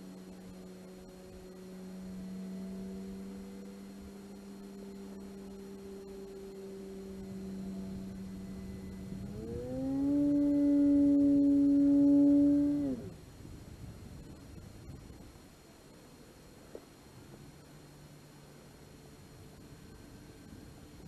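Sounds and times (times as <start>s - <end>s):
electric motor and propeller droning: 0.0s - 21.0s.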